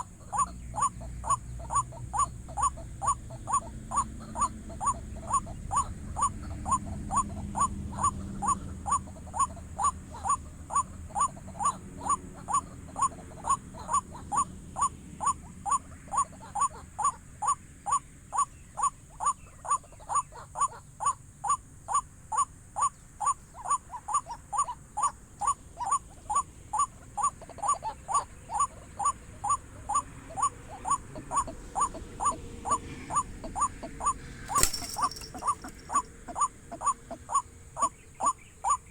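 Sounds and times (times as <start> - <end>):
bird croaking call: 0.0 - 38.9.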